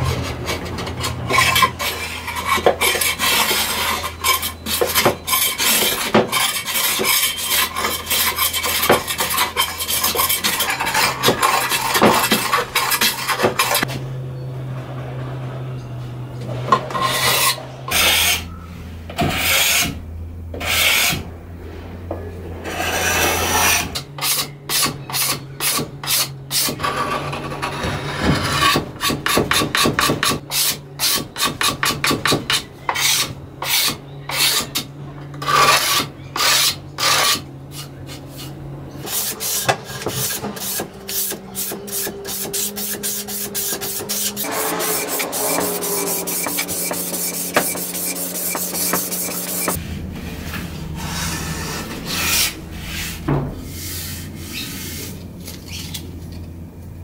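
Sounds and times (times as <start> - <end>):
steel scraper scraping wood: 0.0 - 14.0, 16.4 - 21.9, 22.5 - 56.4.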